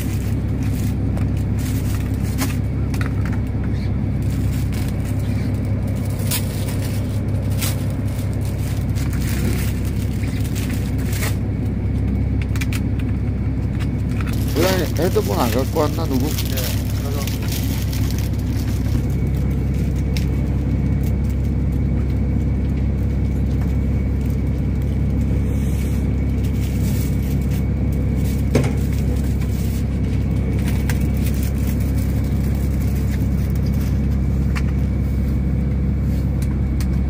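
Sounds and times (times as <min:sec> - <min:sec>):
boat engine droning: 0:00.0 - 0:37.0.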